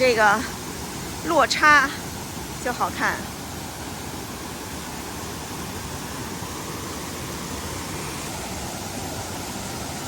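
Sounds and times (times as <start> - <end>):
waterfall rushing over rocks: 0.0 - 10.0.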